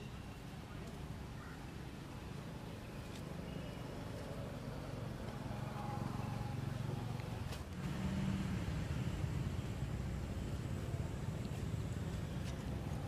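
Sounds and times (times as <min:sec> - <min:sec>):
vehicle engine hum: 0:00.6 - 0:13.0.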